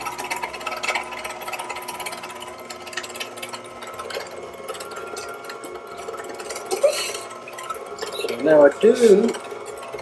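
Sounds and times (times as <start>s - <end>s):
crackling clicks of meat grinding: 0.0s - 10.0s
juicer motor whine: 0.0s - 10.0s.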